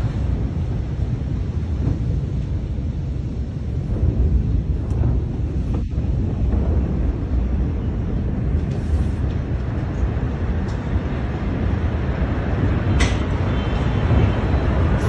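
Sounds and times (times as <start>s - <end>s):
dense low rumbling noise: 0.0s - 15.0s.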